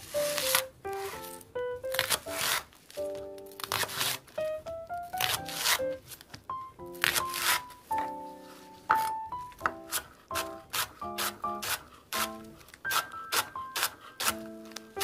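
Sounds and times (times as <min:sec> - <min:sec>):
light plucked background music: 0:00.0 - 0:15.0
knife slicing on wooden board: 0:00.1 - 0:02.7, 0:03.6 - 0:04.2, 0:05.2 - 0:06.0, 0:07.0 - 0:15.0.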